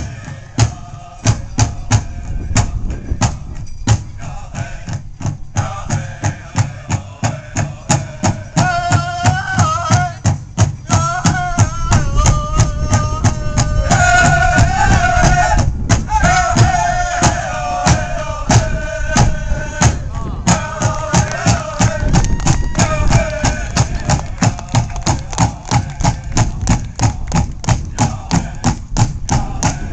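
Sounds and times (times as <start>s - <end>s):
big drum steady beat: 0.0s - 29.9s
group of voices chanting song: 0.0s - 29.9s.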